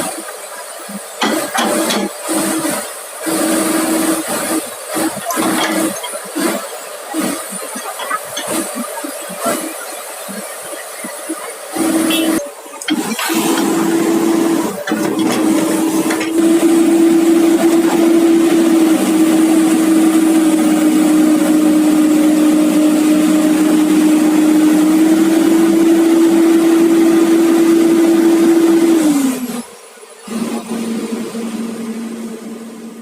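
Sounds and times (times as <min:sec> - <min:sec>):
excavator running with high whine: 0:00.0 - 0:33.0.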